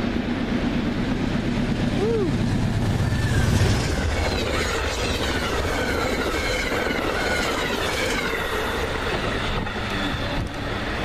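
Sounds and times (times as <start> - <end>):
passenger train rushing and clattering: 0.0 - 11.0.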